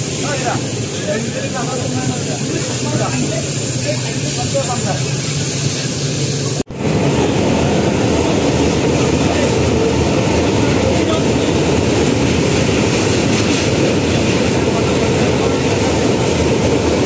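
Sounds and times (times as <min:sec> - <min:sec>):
train rumbling over bridge: 0:00.0 - 0:17.0.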